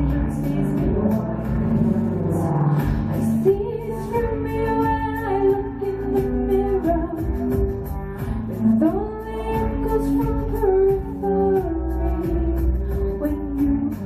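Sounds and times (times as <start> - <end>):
electronic keyboard chords: 0.0 - 14.0
woman singing: 0.0 - 14.0.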